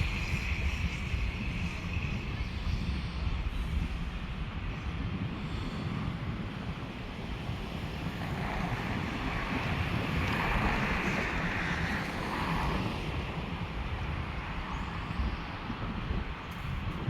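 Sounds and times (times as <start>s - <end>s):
rushing wind-like noise: 0.0s - 17.0s
train rumbling: 0.0s - 17.0s.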